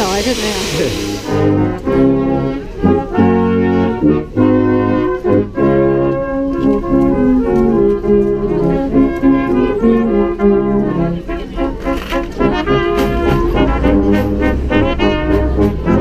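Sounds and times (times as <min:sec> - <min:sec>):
brass band playing slow tune: 0:00.0 - 0:16.0.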